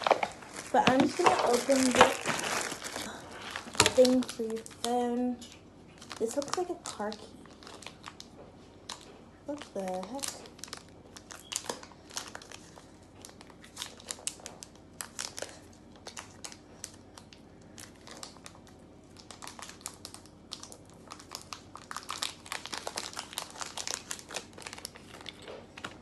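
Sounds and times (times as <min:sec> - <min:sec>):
plastic packet crinkling: 0:00.0 - 0:26.0.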